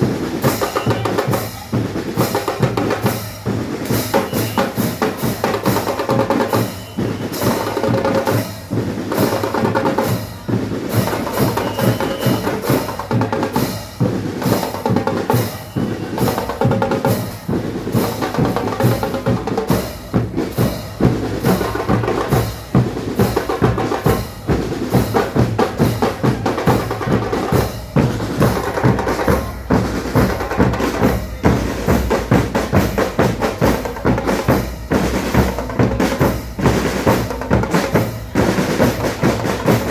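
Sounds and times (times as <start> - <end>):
band playing drum-driven music: 0.0 - 39.9
bass drum and snare beat: 0.0 - 39.9.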